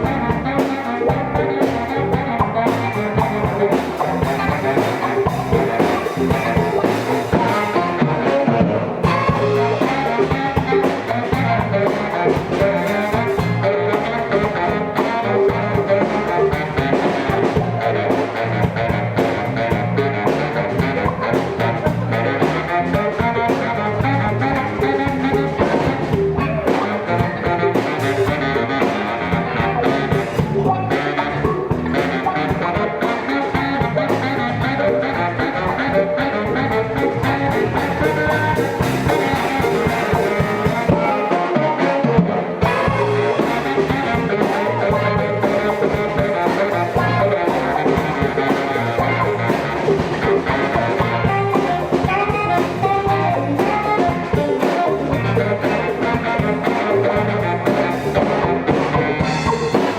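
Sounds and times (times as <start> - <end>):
live band playing jazz-funk: 0.0 - 59.9.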